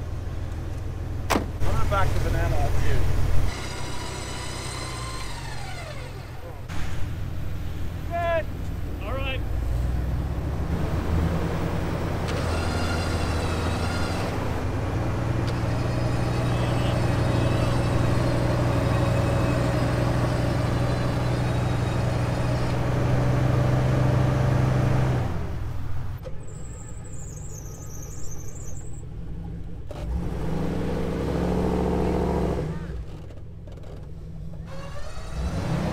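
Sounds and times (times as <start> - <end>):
vehicle engines under load: 0.0 - 35.9.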